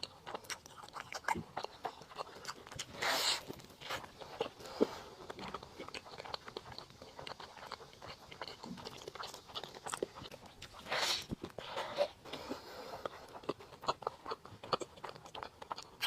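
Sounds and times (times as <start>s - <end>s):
wet chewing: 0.0s - 16.0s.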